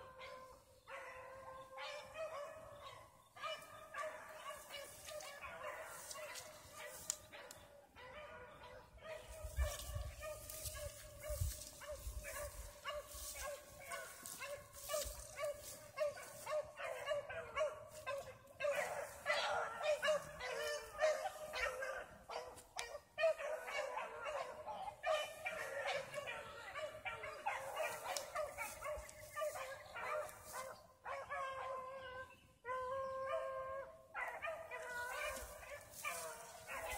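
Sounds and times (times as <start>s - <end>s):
dogs barking: 0.0s - 36.9s.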